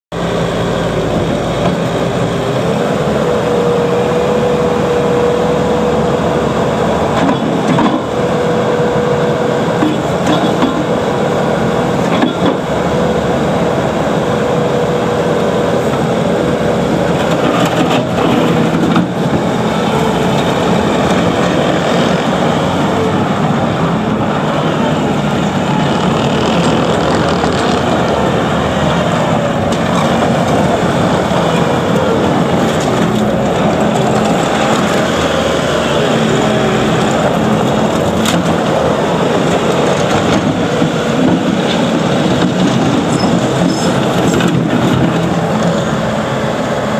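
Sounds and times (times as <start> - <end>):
vehicle engine rumbling: 0.1 - 46.9.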